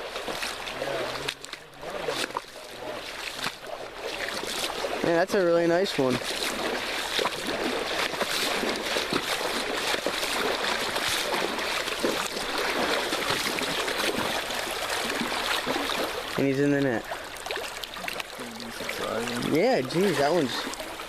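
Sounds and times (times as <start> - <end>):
creek water running: 0.0 - 21.0
short water splashes: 0.0 - 21.0.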